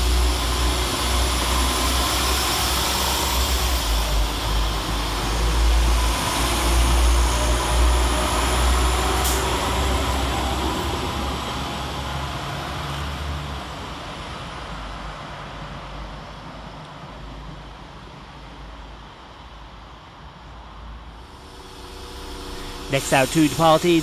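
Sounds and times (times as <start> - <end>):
train engines and wheels rumbling: 0.0 - 24.0.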